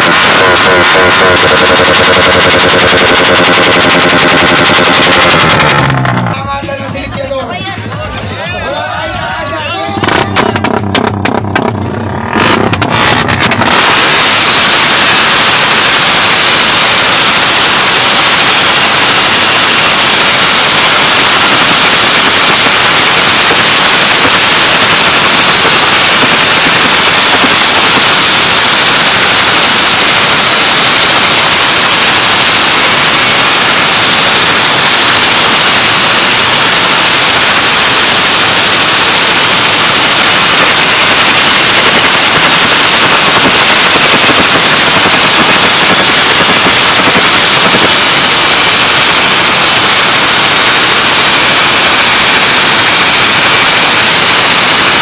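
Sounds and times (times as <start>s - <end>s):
motorcycle engine revving: 0.0s - 6.8s, 9.8s - 55.0s
distorted harsh noise: 0.0s - 55.0s.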